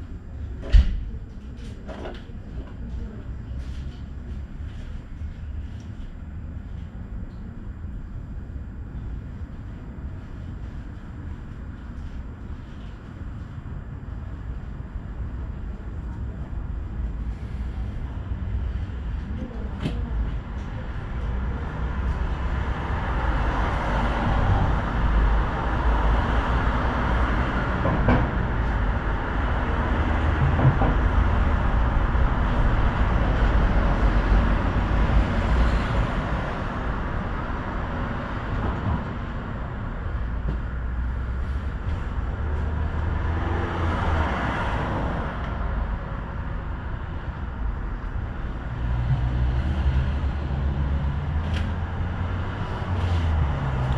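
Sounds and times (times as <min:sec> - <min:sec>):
tram wheels rumbling on rails: 0:00.0 - 0:53.9.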